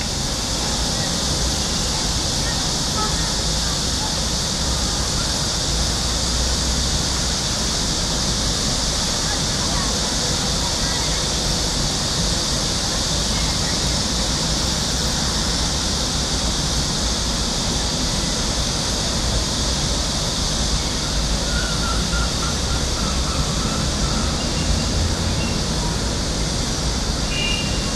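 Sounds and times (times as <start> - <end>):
city hiss: 0.0 - 27.9.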